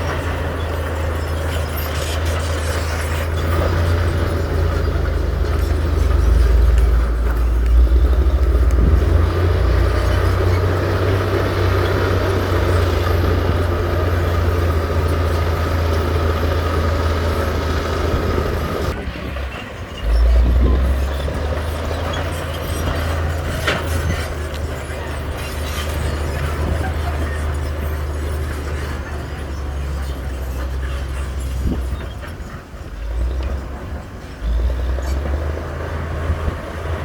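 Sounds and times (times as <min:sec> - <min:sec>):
diesel machinery rumbling: 0:00.0 - 0:37.0.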